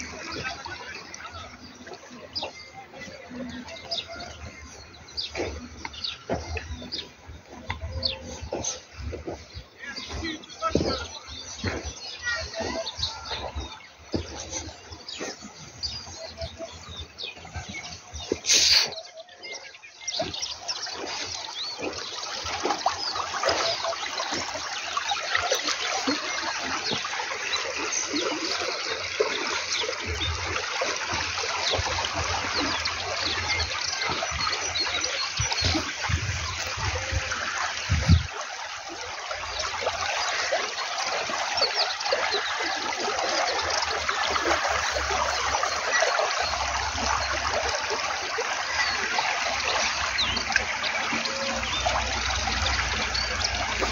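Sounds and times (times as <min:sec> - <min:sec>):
water trickling in ditch: 0:00.0 - 0:53.9.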